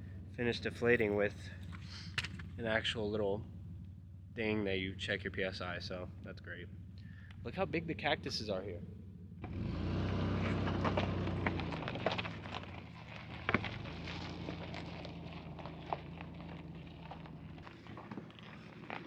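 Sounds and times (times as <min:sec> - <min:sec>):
low engine hum: 0:00.0 - 0:19.0
stones crunching under tires: 0:00.3 - 0:03.9, 0:07.0 - 0:19.0.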